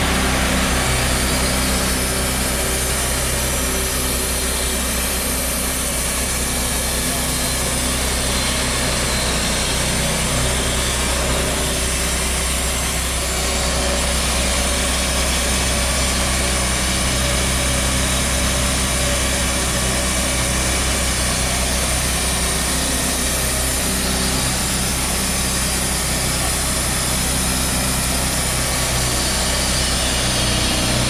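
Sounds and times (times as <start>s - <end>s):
sawmill engine running: 0.0s - 31.0s.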